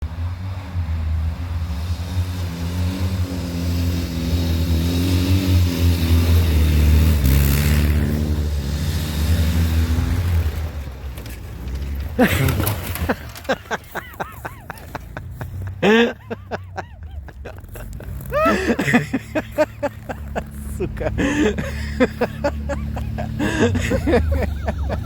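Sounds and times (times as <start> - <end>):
motorcycle engine running: 0.1 - 11.1, 11.7 - 25.0.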